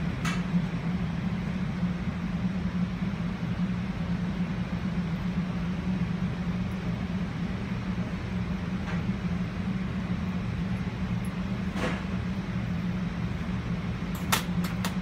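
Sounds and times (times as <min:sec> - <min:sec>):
kitchen machinery humming: 0:00.0 - 0:15.0.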